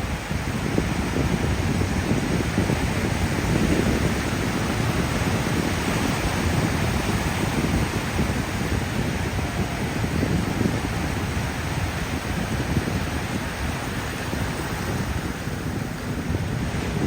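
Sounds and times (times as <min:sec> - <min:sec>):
surf washing onto beach: 0:00.0 - 0:17.0
wind rumbling on microphone: 0:00.0 - 0:17.0.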